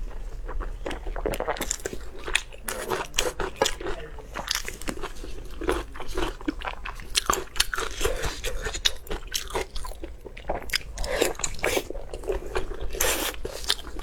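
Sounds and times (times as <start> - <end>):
crunchy bites and wet chewing: 0.4 - 14.0.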